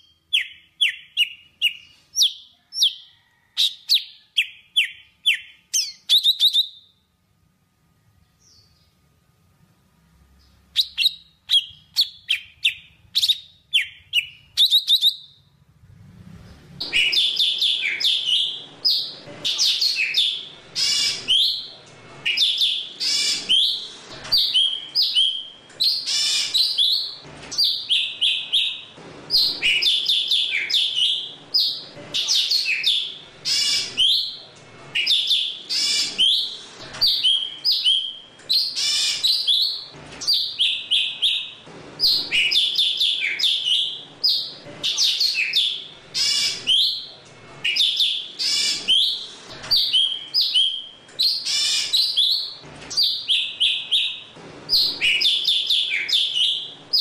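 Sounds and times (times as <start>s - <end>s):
bird chirping and whistling: 0.0s - 6.9s, 10.8s - 15.4s, 16.8s - 34.4s, 35.0s - 57.0s.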